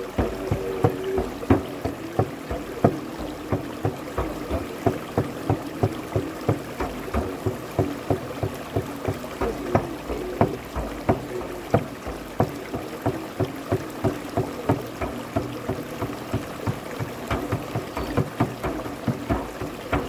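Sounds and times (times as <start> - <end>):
low flute melody: 0.0 - 20.0
steady drum beat: 0.0 - 20.0
stream rushing over rocks: 0.0 - 20.0.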